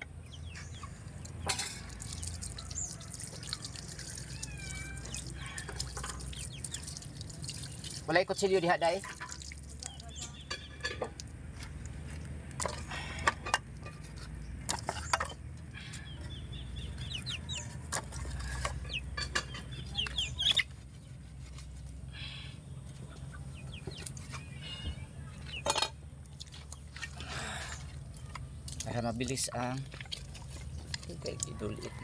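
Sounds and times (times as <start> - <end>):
chickens clucking: 0.0 - 7.9, 12.6 - 27.0, 27.8 - 32.0.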